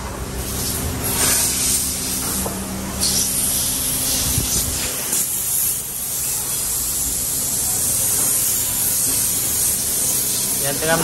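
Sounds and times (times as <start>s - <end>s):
spray gun hissing: 0.4s - 11.0s.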